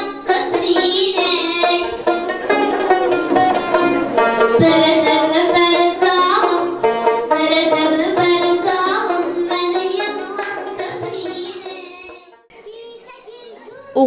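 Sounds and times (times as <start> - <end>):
plucked lute melody: 0.0 - 12.4.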